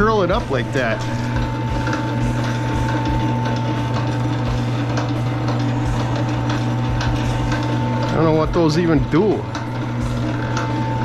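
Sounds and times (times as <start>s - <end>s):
gears and rollers rattling: 0.0s - 11.0s
motor hum and whine: 0.0s - 11.0s.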